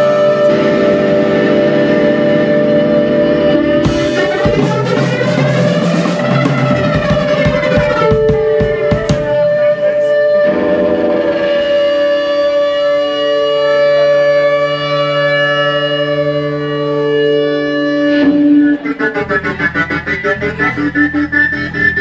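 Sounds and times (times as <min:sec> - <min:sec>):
band holding a chord: 0:00.0 - 0:22.0
rhythmic guitar: 0:00.0 - 0:22.0.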